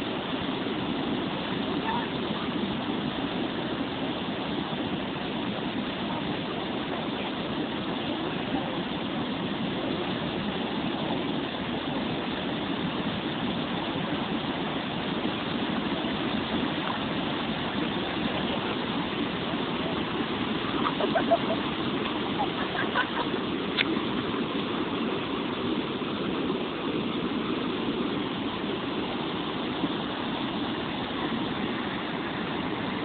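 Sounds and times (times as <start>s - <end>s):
floodwater rushing and churning: 0.0s - 33.0s.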